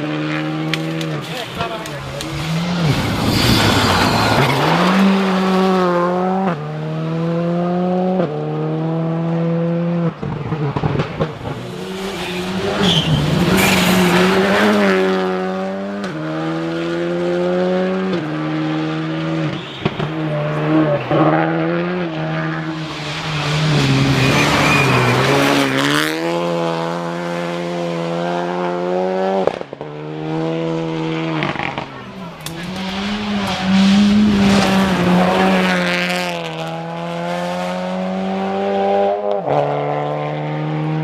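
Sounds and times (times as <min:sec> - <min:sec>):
rally car engine accelerating: 0:00.0 - 0:41.0.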